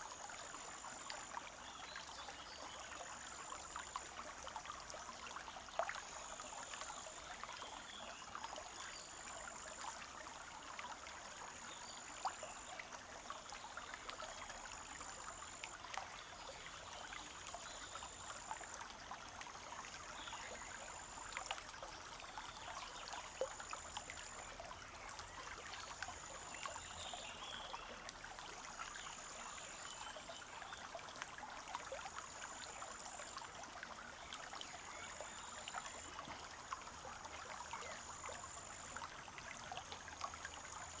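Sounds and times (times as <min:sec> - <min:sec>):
stream trickling: 0:00.0 - 0:41.0.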